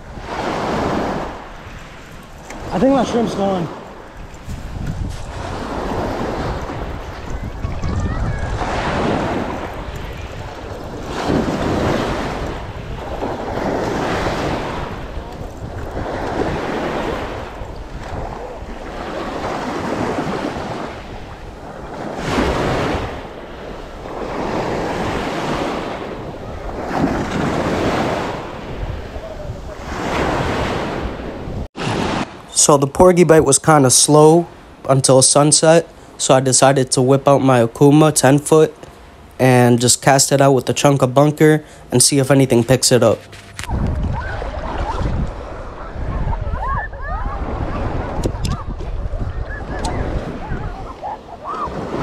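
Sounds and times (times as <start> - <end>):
wind buffeting microphone: 0.0 - 32.5, 42.5 - 52.0
small waves breaking on shore: 0.0 - 52.0.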